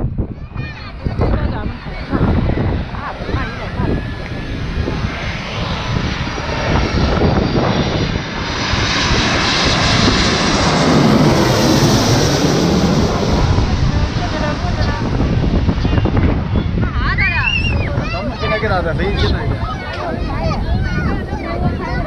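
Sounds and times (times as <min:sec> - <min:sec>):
high jet engine whine: 0:00.0 - 0:22.0
jet airliner passing overhead: 0:00.0 - 0:22.0.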